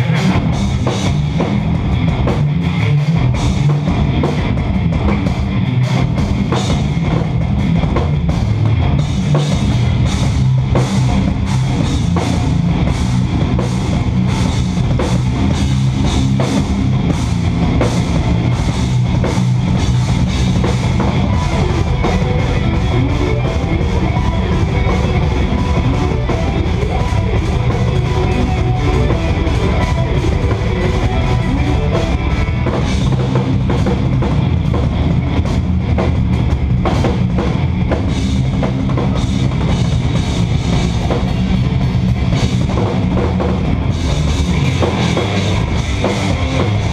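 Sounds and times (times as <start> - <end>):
electric guitar riffing: 0.0 - 46.9
rapid drum and cymbal hits: 0.0 - 46.9.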